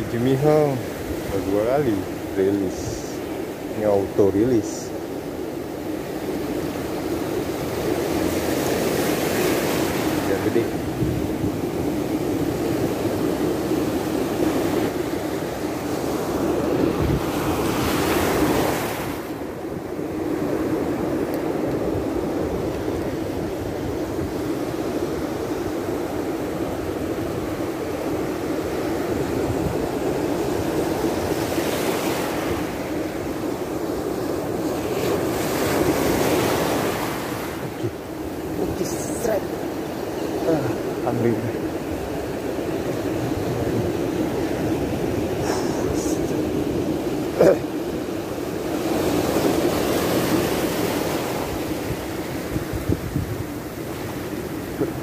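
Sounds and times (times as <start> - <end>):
surf washing onto beach: 0.0 - 55.0
wind buffeting microphone: 6.2 - 47.0, 48.5 - 55.0.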